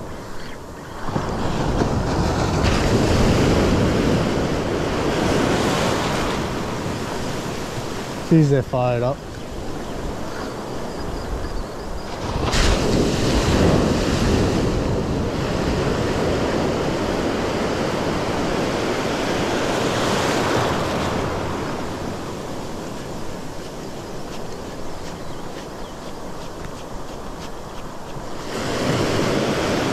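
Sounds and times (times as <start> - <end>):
small waves breaking in surf: 0.0 - 10.9, 12.0 - 29.9.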